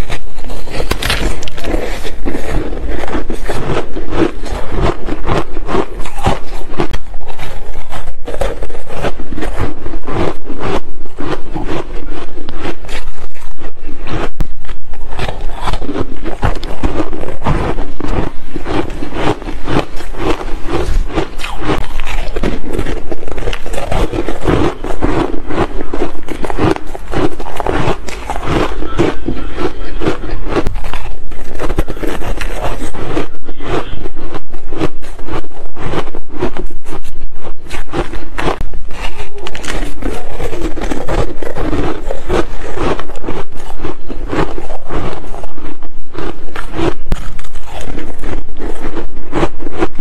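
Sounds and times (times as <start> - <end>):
mouth chewing crunchy ice: 0.0 - 50.0.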